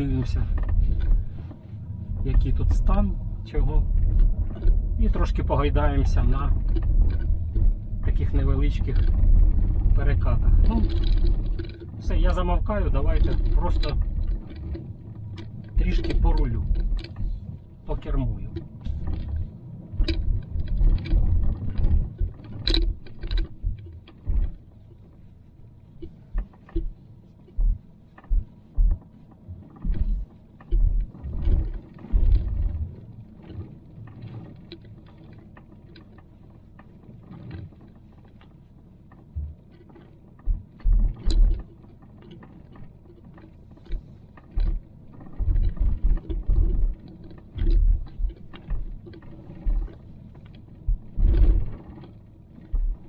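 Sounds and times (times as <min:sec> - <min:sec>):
car interior ticks and creaks: 0:00.0 - 0:53.0
car suspension thudding over bumps: 0:00.0 - 0:53.0.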